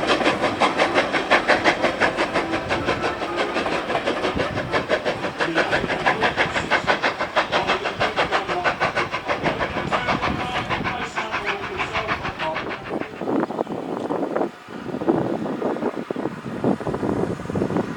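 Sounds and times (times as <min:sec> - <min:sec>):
train running past: 0:00.0 - 0:17.9.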